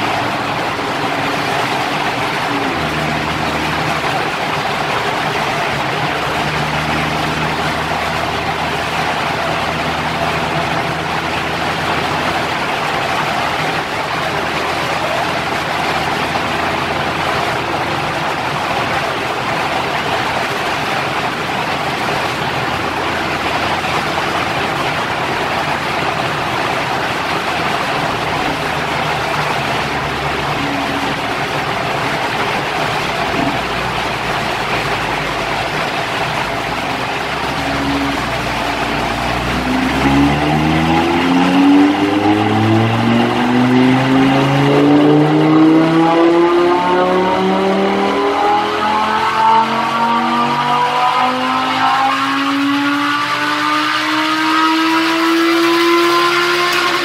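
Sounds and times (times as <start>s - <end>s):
car engine idling: 0.0s - 57.0s
workshop blower rushing: 0.0s - 57.0s.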